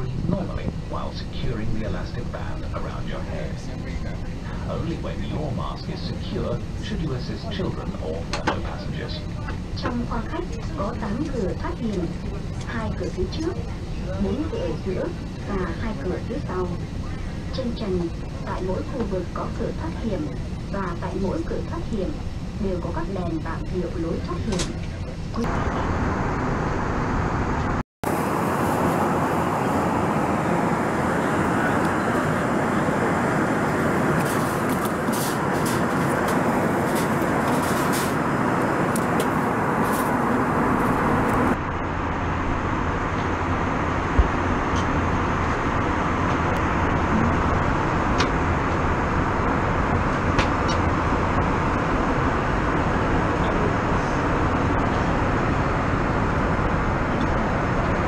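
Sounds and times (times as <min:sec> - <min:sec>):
airplane cabin engine and airflow noise: 0:00.0 - 0:58.0.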